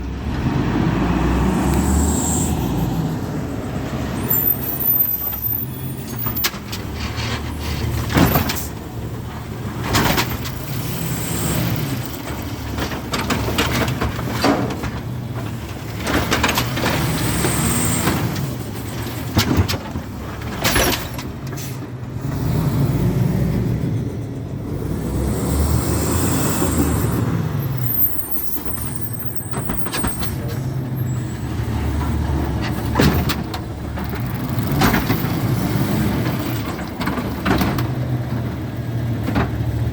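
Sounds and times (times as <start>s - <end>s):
diesel engine revving: 0.0s - 19.4s, 21.5s - 39.9s.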